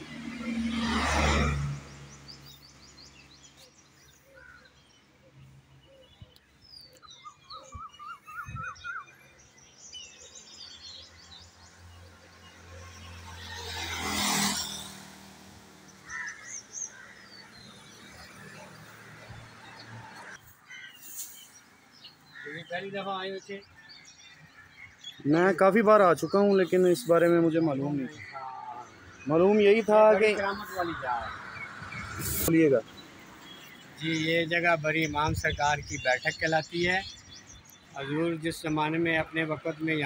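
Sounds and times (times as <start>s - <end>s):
vehicle passing on road: 0.0s - 5.8s, 10.4s - 20.6s, 23.7s - 40.0s
small birds chirping: 0.0s - 40.0s.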